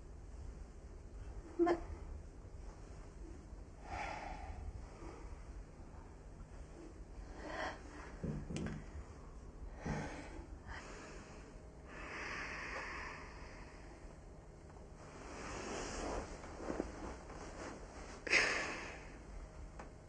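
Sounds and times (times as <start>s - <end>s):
soft breathing and sighs: 0.3s - 20.0s.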